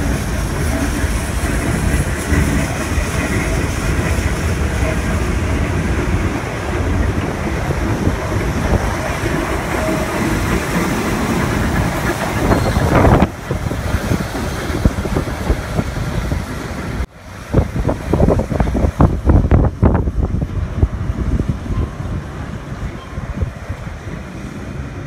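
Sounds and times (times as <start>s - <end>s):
subway train wheels clattering: 0.0s - 25.0s
wind on microphone: 0.0s - 25.0s.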